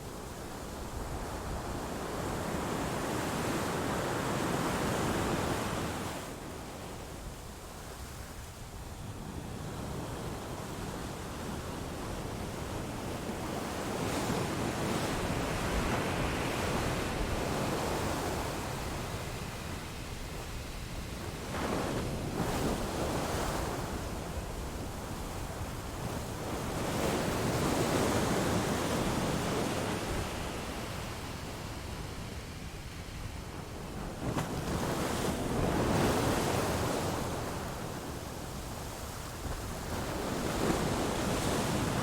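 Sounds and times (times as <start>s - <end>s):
waves washing on a shore: 0.0s - 42.0s.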